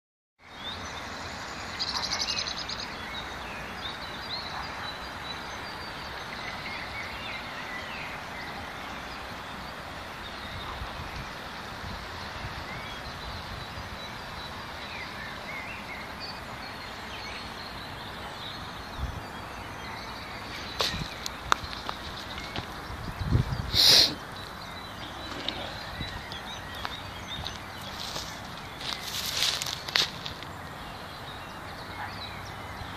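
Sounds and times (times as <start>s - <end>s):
birds twittering: 0.4s - 32.9s
distant motorway traffic: 0.6s - 32.9s.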